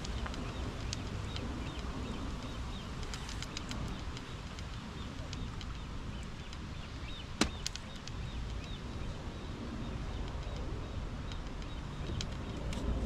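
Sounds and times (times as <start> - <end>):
light ticks: 0.0 - 13.0
small birds chirping: 0.0 - 13.0
steady low rumble: 0.0 - 13.0.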